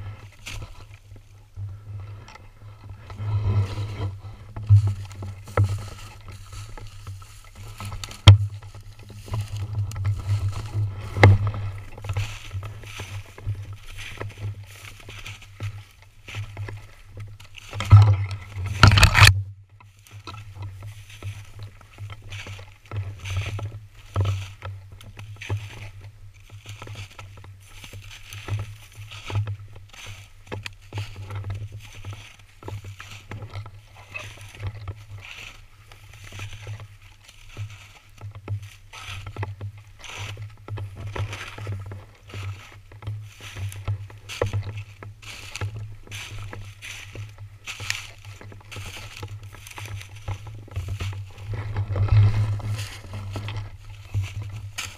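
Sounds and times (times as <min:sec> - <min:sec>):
footsteps crunching through snow: 0:00.0 - 0:19.3, 0:19.9 - 0:54.9
low rumble of handling noise: 0:00.0 - 0:54.9
twigs brushing against gun: 0:00.0 - 0:54.9.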